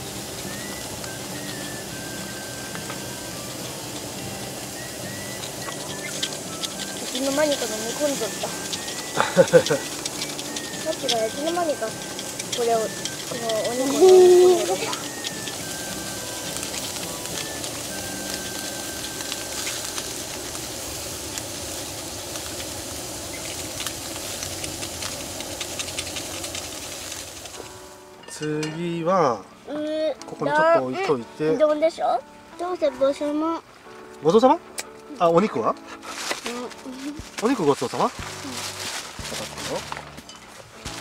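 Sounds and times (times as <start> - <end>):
meat sizzling in skillet: 0.0 - 41.0
pops and crackles: 0.4 - 27.8, 34.0 - 35.2, 35.8 - 41.0.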